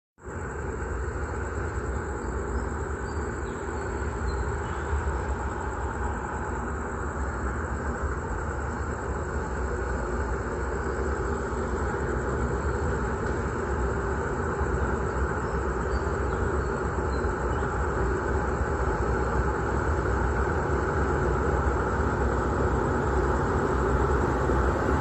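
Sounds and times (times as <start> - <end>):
diesel freight train running: 0.2 - 25.0.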